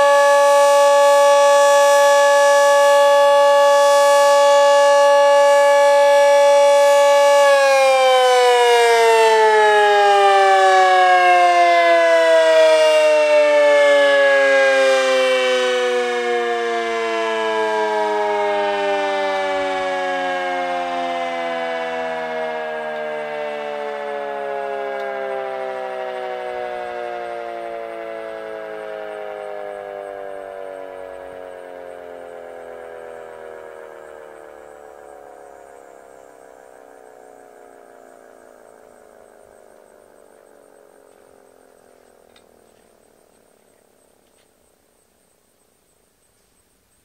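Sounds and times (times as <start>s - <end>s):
warning siren winding down: 0.0s - 45.6s.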